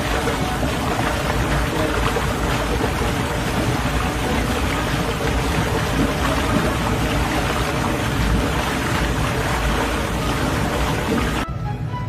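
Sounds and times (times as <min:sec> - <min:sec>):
spa jets churning water: 0:00.0 - 0:11.5.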